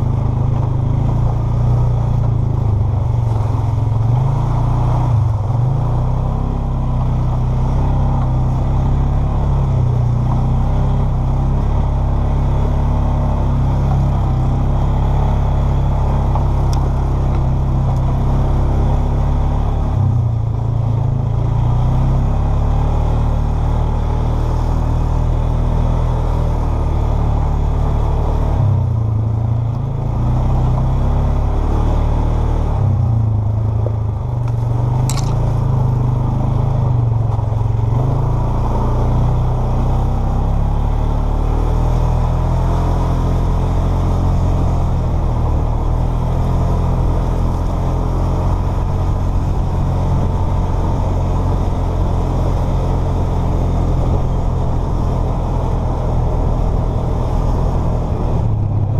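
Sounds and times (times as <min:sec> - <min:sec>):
quad bike engine running: 0:00.0 - 0:58.9.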